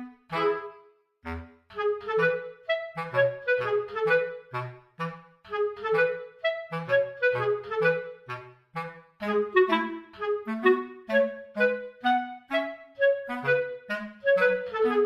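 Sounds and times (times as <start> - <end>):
light bouncy background music: 0.0 - 15.0.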